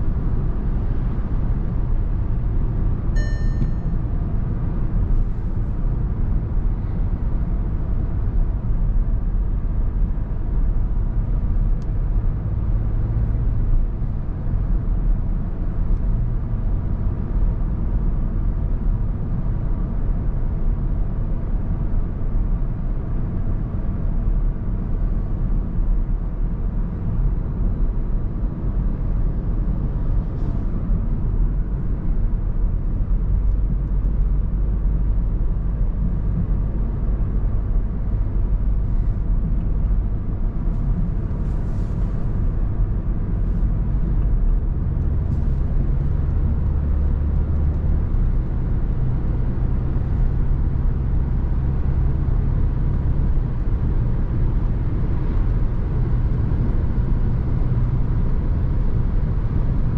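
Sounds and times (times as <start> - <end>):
car driving steady road noise: 0.0 - 59.9.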